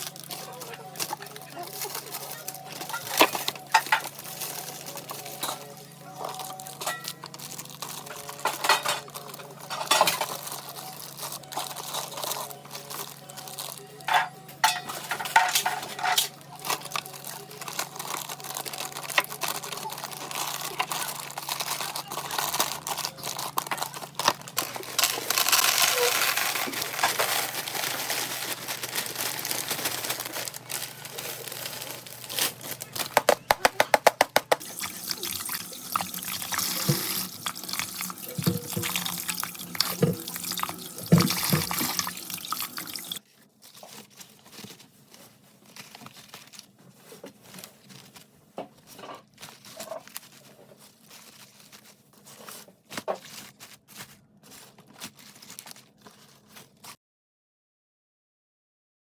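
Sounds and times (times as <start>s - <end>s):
plastic crinkling and rustling: 0.0s - 57.0s.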